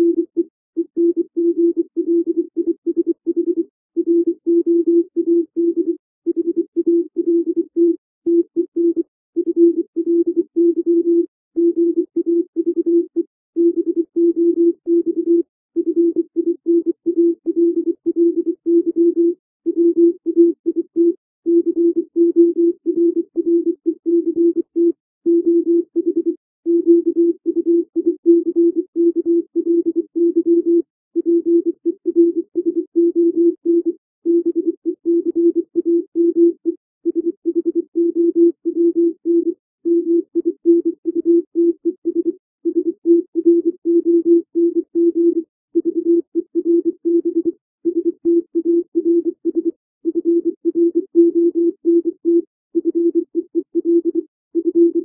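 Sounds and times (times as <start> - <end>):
morse code beeps: 0.0 - 55.0.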